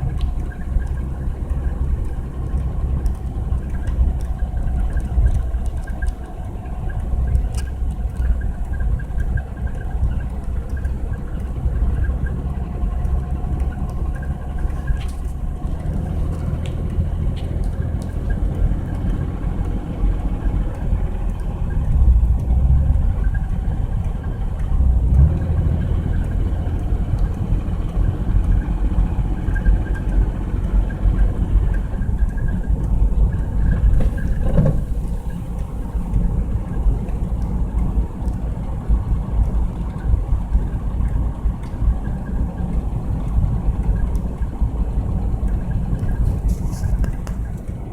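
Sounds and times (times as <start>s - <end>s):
car engine and road noise: 0.0s - 47.9s.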